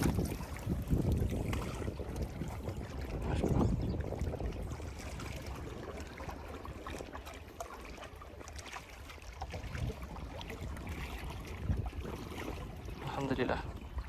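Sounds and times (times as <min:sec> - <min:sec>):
water lapping and trickling: 0:00.0 - 0:14.0
wind rumbling on microphone: 0:00.0 - 0:14.0.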